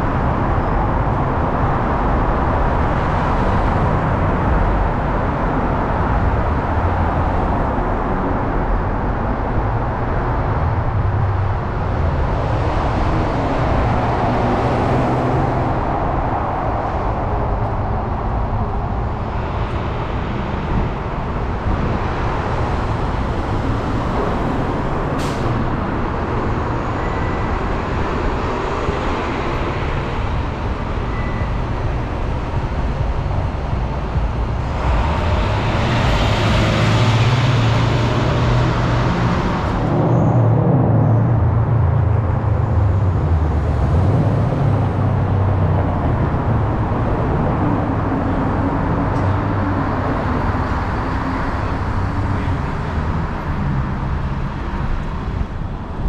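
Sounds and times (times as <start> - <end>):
traffic rumble and tyre noise: 0.0 - 56.0.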